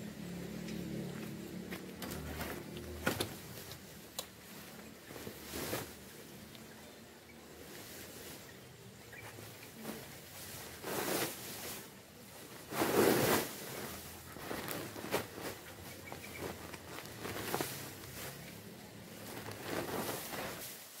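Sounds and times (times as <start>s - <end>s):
leaves rustling: 0.2s - 21.0s.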